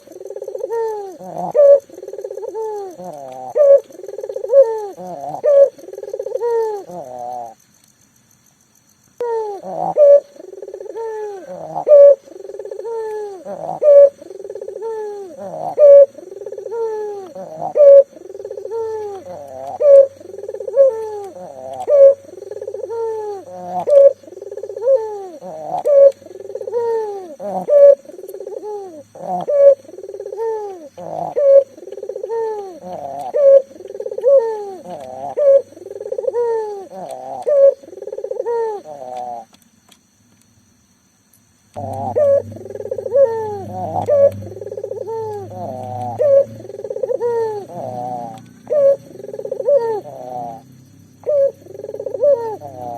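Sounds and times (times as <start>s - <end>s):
dove cooing: 0.0s - 7.6s, 9.2s - 39.6s, 41.8s - 52.9s.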